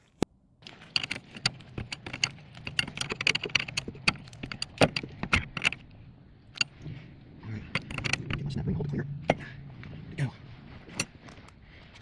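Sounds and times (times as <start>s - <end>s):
metal tools clinking: 0.6s - 12.0s.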